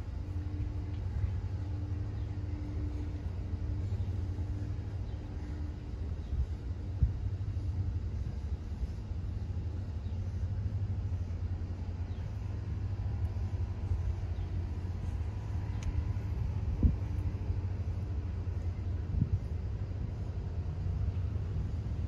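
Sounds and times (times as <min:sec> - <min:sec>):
faint distant engine hum: 0:00.0 - 0:22.0
low outdoor rumble: 0:00.0 - 0:22.0.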